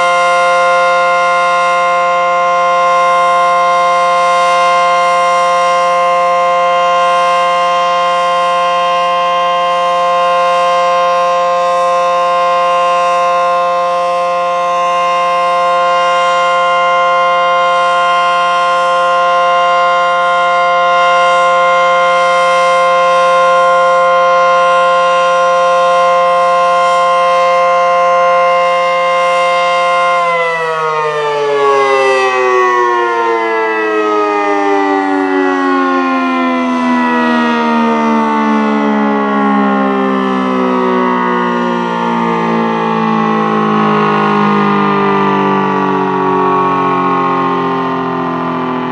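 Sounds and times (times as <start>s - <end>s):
warning siren: 0.0s - 48.9s.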